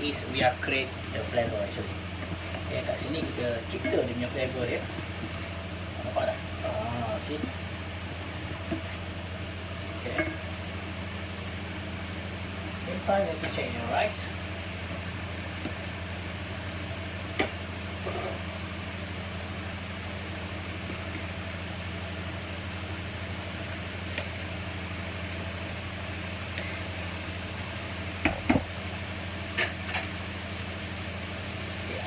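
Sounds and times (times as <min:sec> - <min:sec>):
pans sizzling and simmering: 0:00.0 - 0:32.0.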